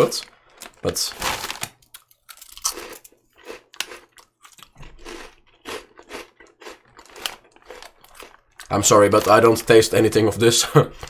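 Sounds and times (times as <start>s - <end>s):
crackers being crunched: 0.0s - 10.0s.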